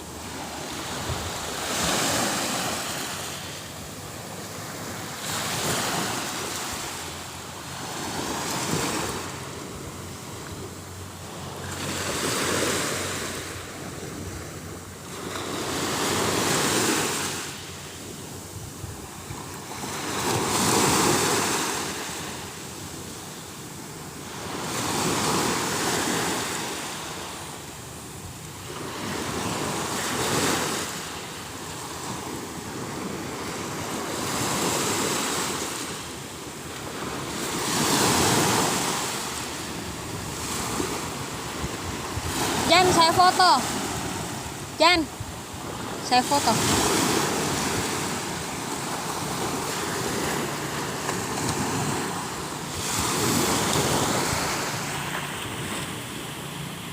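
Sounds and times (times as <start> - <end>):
waves breaking on shore: 0.0 - 56.9.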